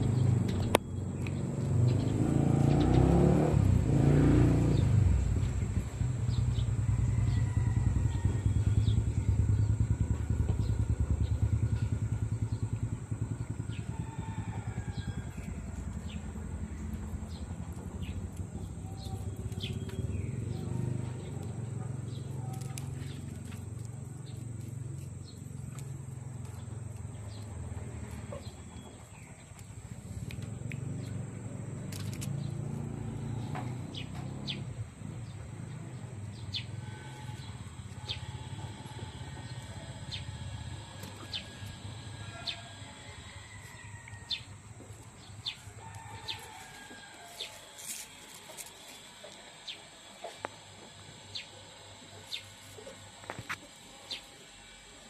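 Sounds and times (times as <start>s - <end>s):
birds chirping: 0.0s - 47.8s, 49.2s - 54.4s
low steady rumble: 3.5s - 55.0s.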